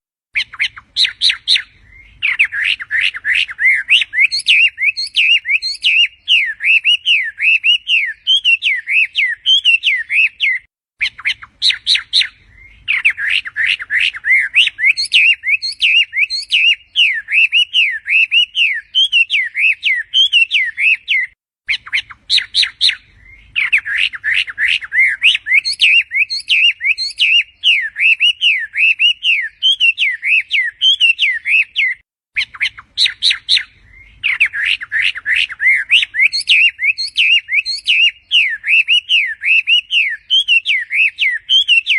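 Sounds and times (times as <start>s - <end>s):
songbird warbling: 0.4s - 41.9s.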